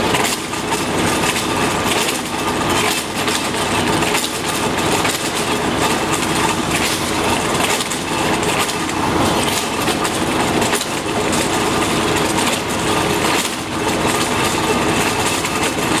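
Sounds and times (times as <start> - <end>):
diesel engine running: 0.0 - 16.0
trencher grinding asphalt: 0.0 - 16.0.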